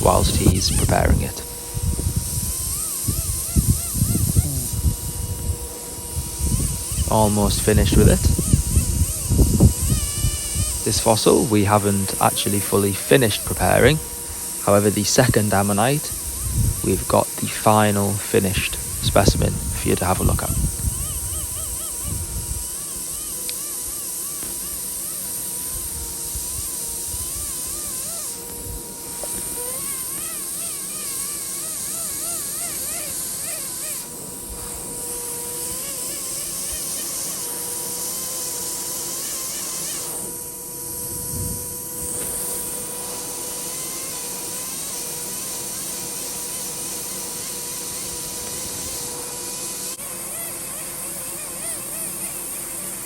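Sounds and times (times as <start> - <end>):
high hiss of air: 0.0 - 50.3
air pen buzzing on rock: 0.0 - 53.0.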